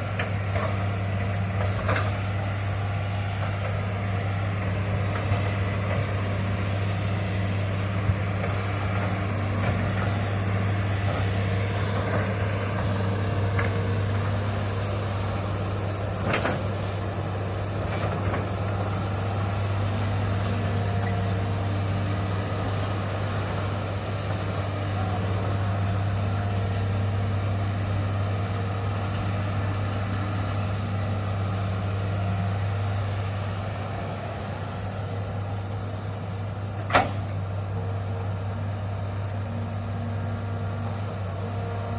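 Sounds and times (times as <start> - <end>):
excavator diesel engine humming: 0.0 - 41.9.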